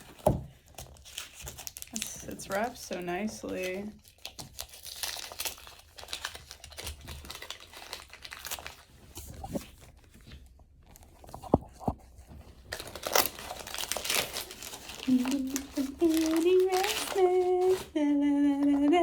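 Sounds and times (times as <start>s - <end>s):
wrapping paper tearing and crinkling: 0.0s - 10.1s, 12.5s - 18.0s.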